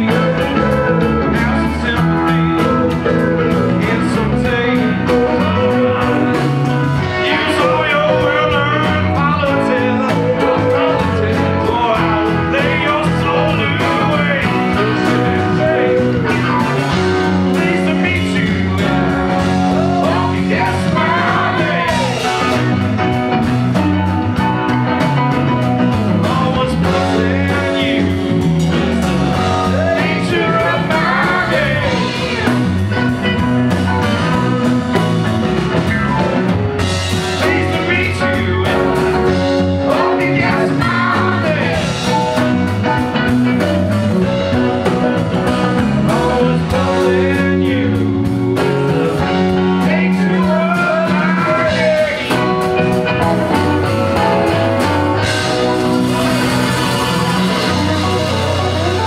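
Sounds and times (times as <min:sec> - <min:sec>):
person singing: 0:00.0 - 0:23.1, 0:26.1 - 0:35.0, 0:37.1 - 0:59.0
live rock band playing: 0:00.0 - 0:59.0.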